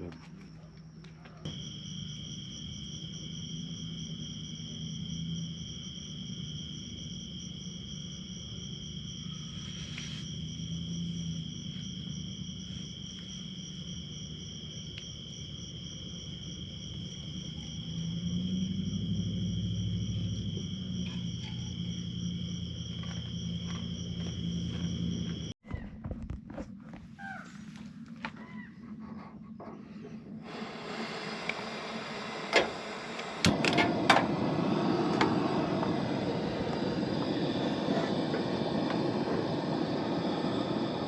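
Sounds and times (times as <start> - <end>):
crickets trilling: 0.0 - 25.6, 27.3 - 41.0.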